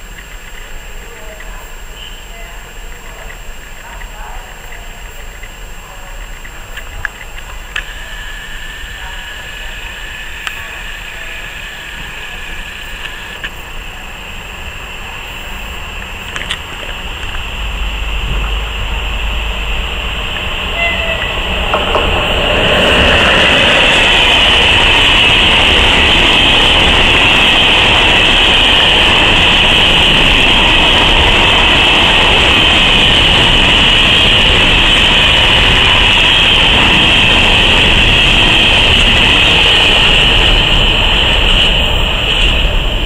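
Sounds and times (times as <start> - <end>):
freight train wheels rumbling on rail: 0.0 - 43.0.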